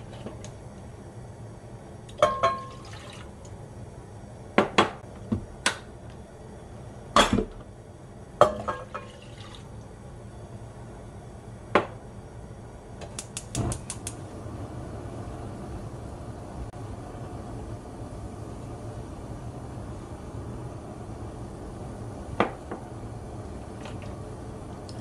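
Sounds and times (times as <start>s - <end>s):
gas flame noise: 0.0s - 8.9s, 9.7s - 25.0s.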